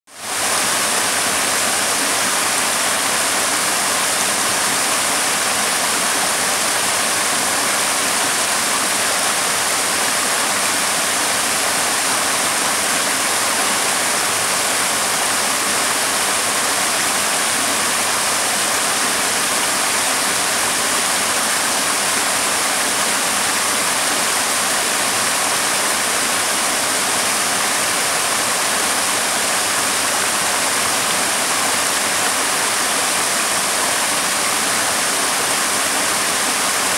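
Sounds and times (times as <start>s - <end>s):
small waterfall rushing: 0.1s - 36.9s.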